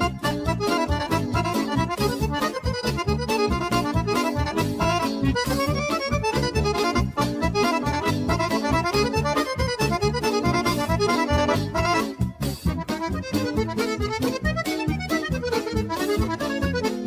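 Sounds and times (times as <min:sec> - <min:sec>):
driving bass beat: 0:00.0 - 0:17.0
fast accordion melody: 0:00.0 - 0:17.0.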